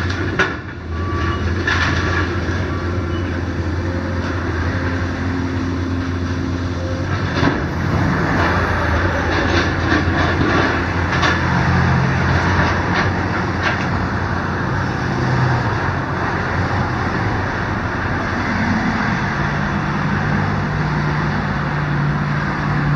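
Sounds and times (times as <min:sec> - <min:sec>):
diesel engine humming: 0:00.0 - 0:22.9
road traffic passing: 0:00.0 - 0:22.9.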